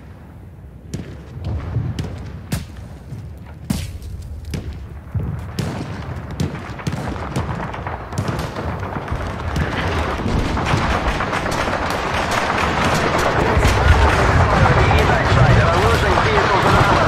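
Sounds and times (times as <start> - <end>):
booms: 0.9 - 17.0
gunshots: 0.9 - 17.0.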